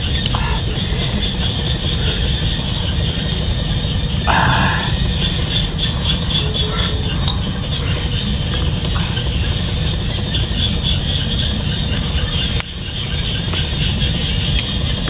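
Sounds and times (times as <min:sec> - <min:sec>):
insect chorus: 0:00.0 - 0:15.0
low rumble: 0:00.0 - 0:15.0.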